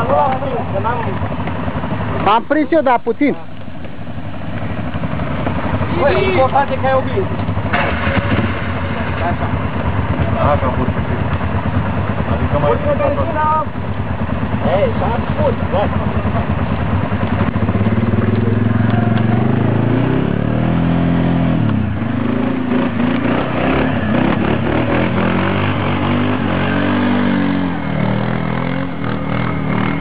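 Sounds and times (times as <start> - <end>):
atv engine revving hard: 4.1 - 30.0.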